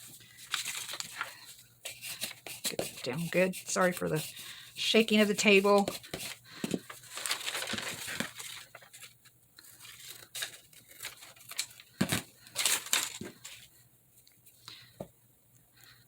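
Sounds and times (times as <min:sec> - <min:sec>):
paper rustling and scraping: 0:00.0 - 0:13.7.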